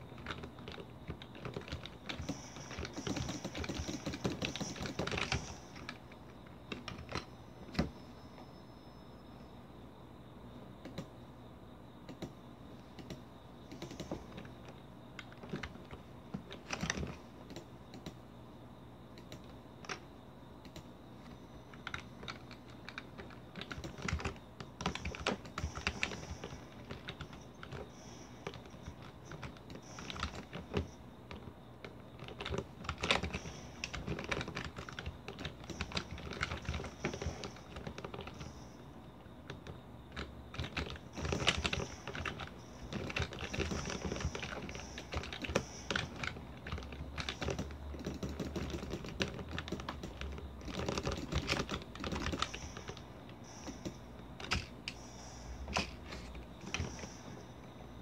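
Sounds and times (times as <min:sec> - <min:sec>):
keyboard typing: 0:00.0 - 0:08.2, 0:10.8 - 0:11.2, 0:12.0 - 0:18.2, 0:19.1 - 0:58.0
faint low hum: 0:00.0 - 0:58.0.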